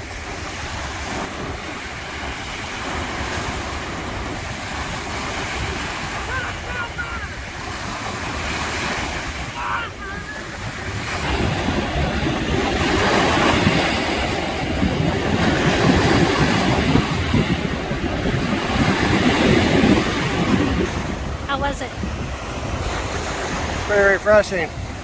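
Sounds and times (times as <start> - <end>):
small waves washing on shore: 0.0 - 25.0
wind buffeting microphone: 0.0 - 25.0.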